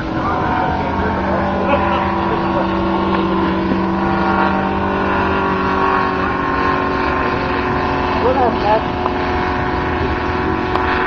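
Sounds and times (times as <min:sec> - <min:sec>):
model airplane radial engine: 0:00.0 - 0:11.0.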